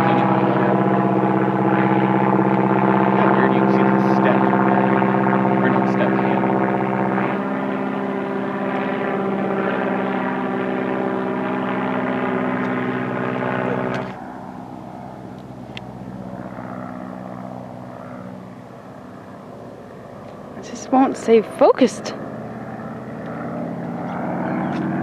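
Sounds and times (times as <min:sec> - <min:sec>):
biplane radial engine overhead: 0:00.0 - 0:25.0.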